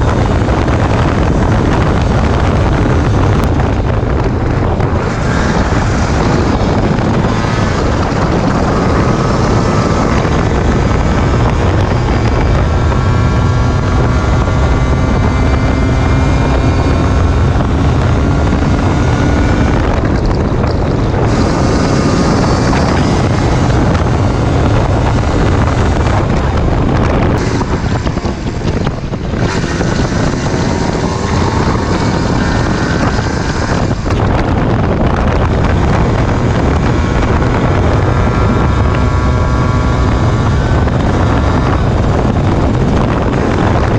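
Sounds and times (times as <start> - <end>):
two-stroke engine revving: 0.0 - 43.9
wind buffeting microphone: 0.0 - 43.9.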